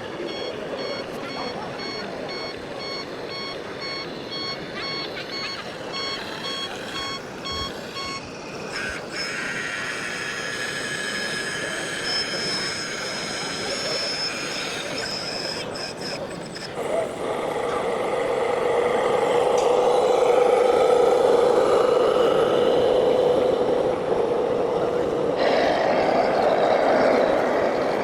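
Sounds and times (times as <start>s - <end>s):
reversing alarm beeping: 0.0s - 28.0s
steady multi-tone whine: 0.0s - 28.0s.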